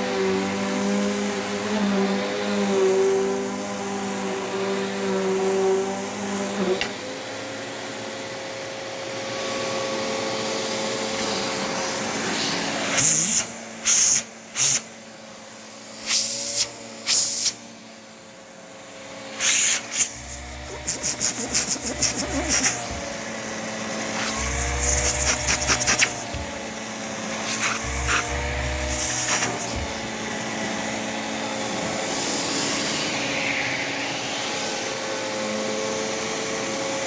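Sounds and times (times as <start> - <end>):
vacuum cleaner motor whine: 0.0 - 37.0.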